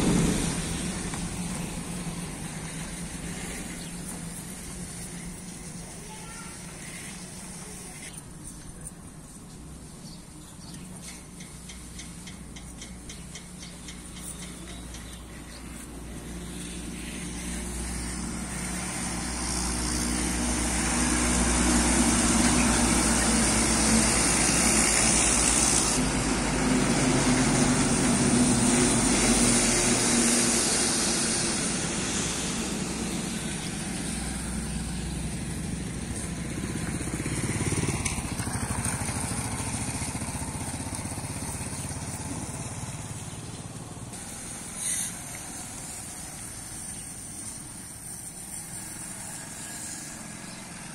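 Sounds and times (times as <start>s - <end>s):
diesel truck driving past: 0.0s - 5.6s, 14.0s - 50.9s.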